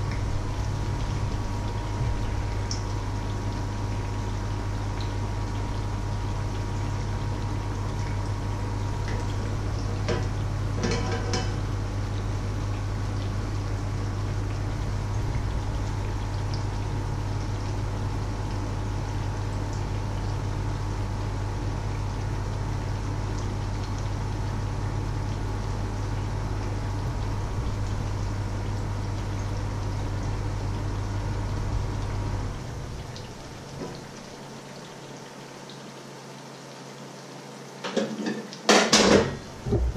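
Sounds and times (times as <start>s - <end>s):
low hum: 0.0s - 34.6s, 39.4s - 39.9s
batter frying in hot oil: 0.0s - 39.9s.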